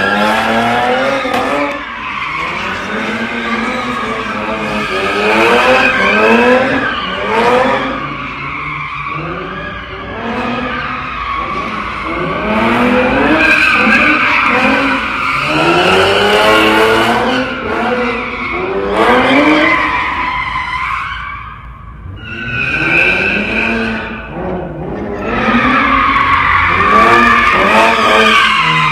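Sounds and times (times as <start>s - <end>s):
car engine revving: 0.0s - 20.9s, 21.8s - 28.9s
tires squealing: 0.0s - 28.9s.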